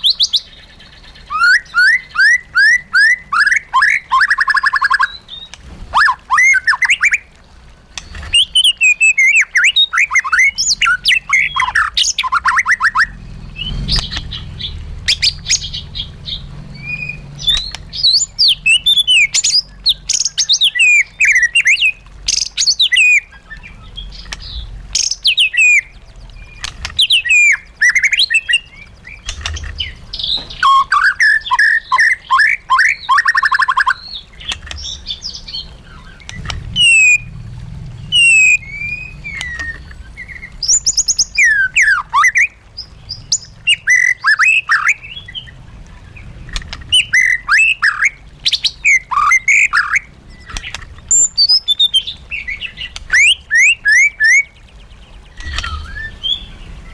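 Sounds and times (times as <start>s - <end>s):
bird singing whistled song: 0.0s - 7.3s, 8.0s - 37.4s, 38.0s - 45.5s, 46.9s - 56.9s.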